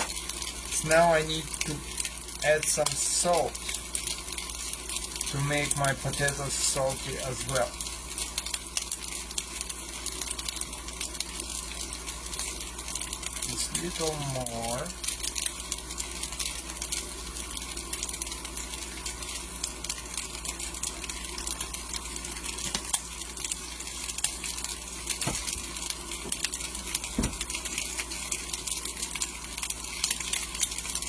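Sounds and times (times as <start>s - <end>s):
potatoes frying in oil: 0.0s - 31.0s.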